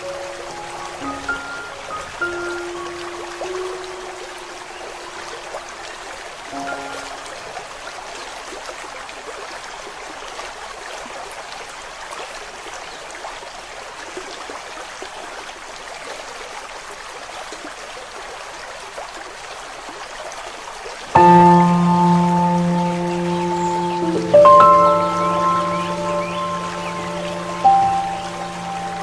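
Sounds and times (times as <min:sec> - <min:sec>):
stream water rushing: 0:00.0 - 0:29.0
water trickling: 0:00.0 - 0:29.0.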